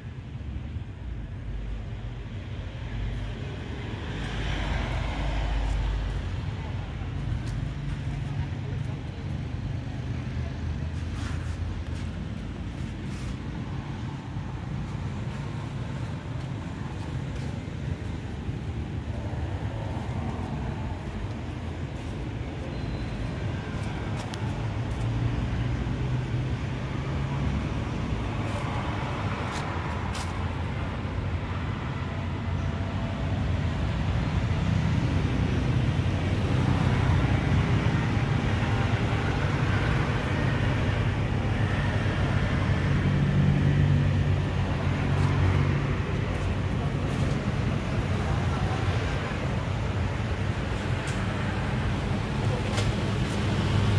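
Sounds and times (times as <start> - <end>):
road traffic rumble: 0.0 - 53.9.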